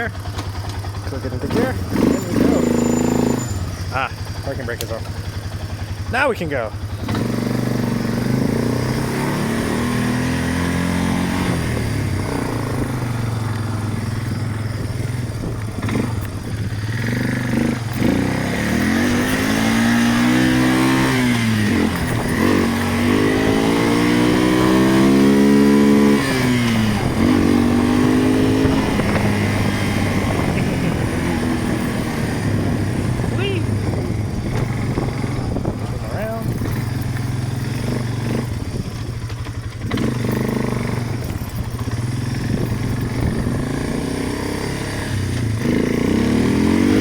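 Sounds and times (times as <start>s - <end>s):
small vehicle engine revving: 0.0s - 47.0s.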